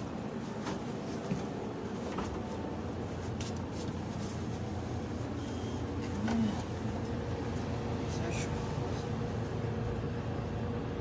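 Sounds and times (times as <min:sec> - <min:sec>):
vehicle interior rumble: 0:00.0 - 0:11.0.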